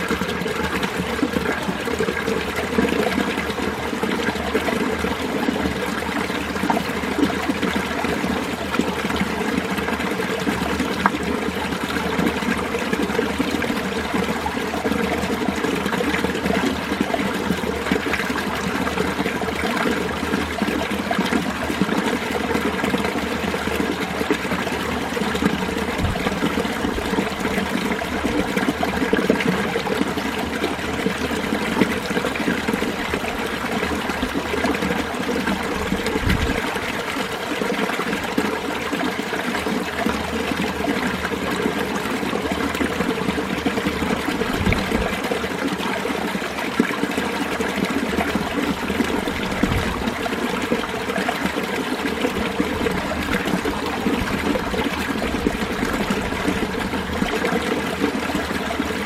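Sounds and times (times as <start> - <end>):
stream water trickling over rocks: 0.0 - 59.0.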